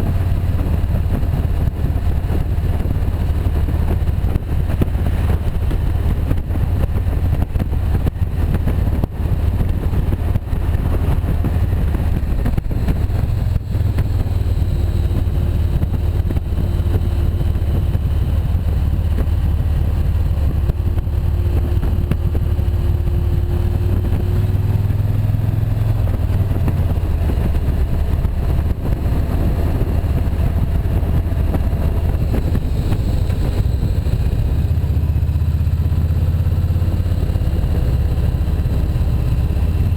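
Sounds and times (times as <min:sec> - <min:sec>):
motorcycle engine running: 0:00.0 - 0:39.9
riding wind rush: 0:00.0 - 0:39.9.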